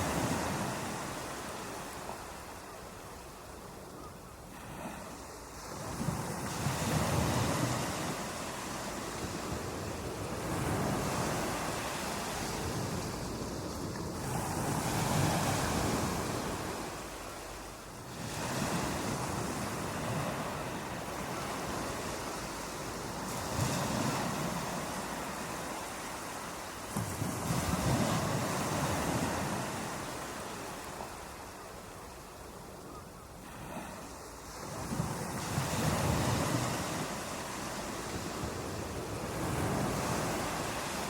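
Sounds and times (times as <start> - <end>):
ocean waves breaking on beach: 0.0 - 41.0.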